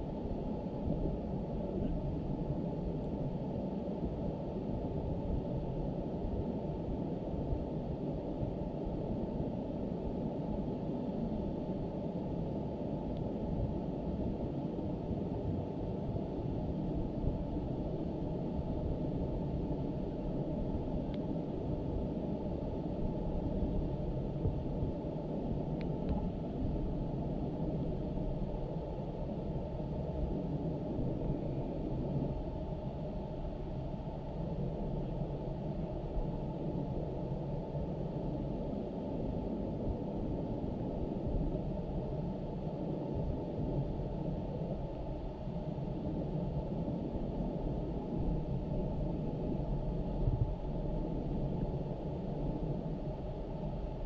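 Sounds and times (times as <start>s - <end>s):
steady low rumbling noise: 0.0s - 54.0s.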